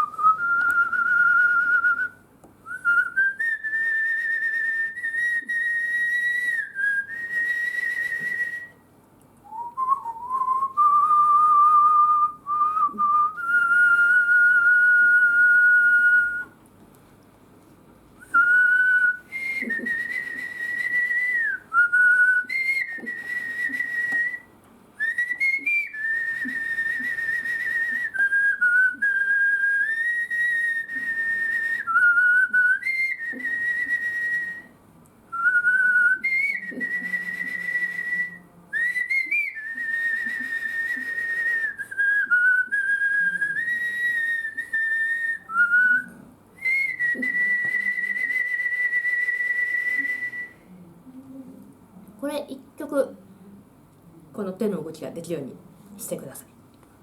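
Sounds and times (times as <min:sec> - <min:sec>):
person whistling a melody: 0:00.0 - 0:08.8, 0:09.4 - 0:16.6, 0:18.2 - 0:34.7, 0:35.3 - 0:50.7.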